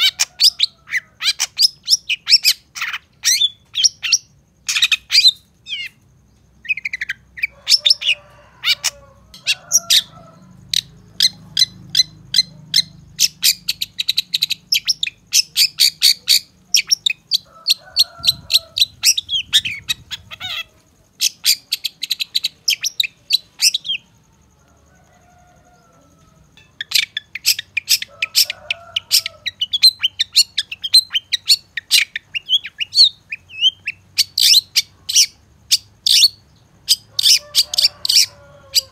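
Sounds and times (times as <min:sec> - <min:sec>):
bird chirping rapidly: 0:00.0 - 0:24.1, 0:26.6 - 0:38.9.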